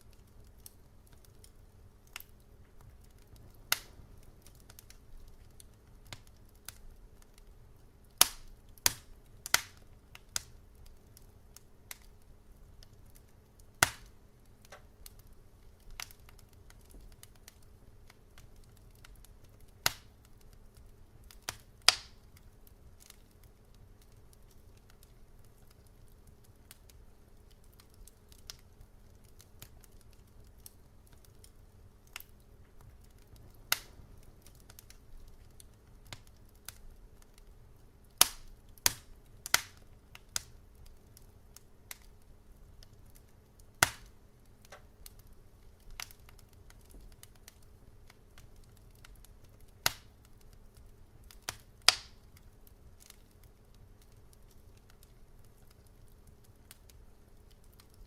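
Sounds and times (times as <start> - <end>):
fire crackling and popping: 0.0 - 58.0
low steady background noise: 0.0 - 58.0.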